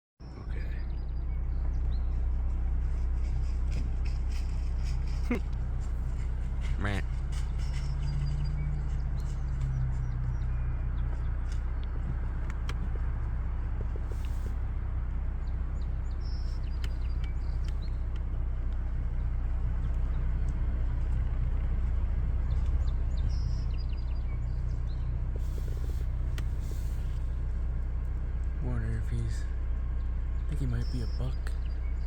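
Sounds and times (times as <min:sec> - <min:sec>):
low engine hum: 0:00.2 - 0:32.0.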